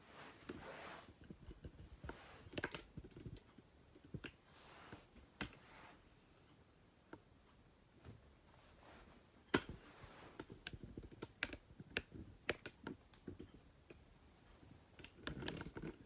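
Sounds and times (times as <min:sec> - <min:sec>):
faint handling clicks and rustles: 0:00.0 - 0:16.0.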